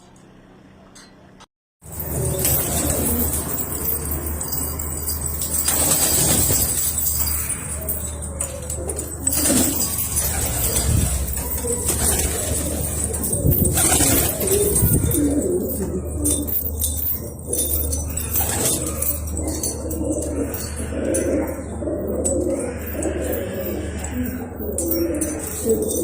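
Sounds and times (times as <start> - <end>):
pigeons cooing: 1.9 - 26.0.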